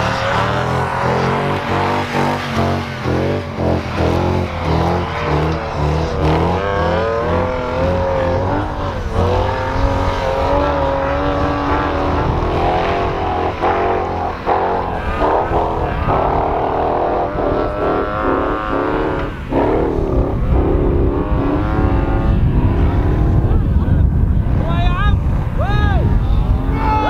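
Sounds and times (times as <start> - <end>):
off-road engines revving: 0.0 - 27.0.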